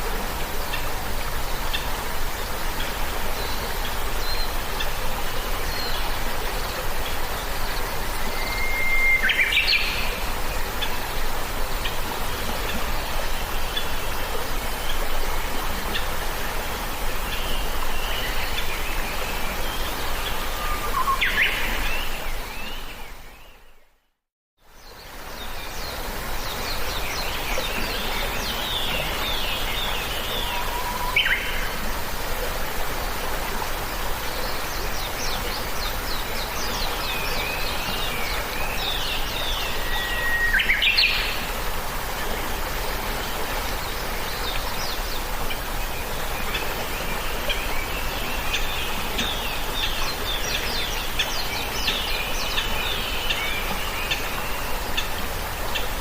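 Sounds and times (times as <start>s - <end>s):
outdoor background hiss: 0.0s - 56.0s.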